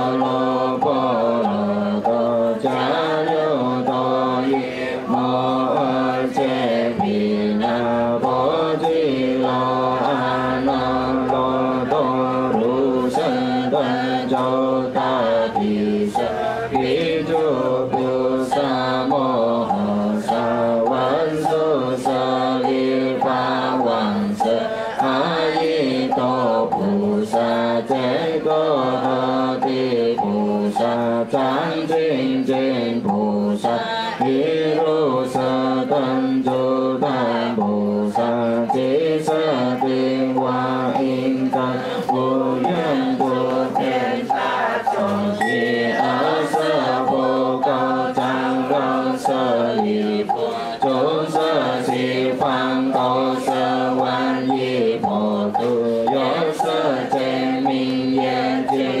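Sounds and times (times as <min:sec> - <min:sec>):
group chanting in unison: 0:00.0 - 0:59.0
light regular tapping: 0:00.0 - 0:59.0.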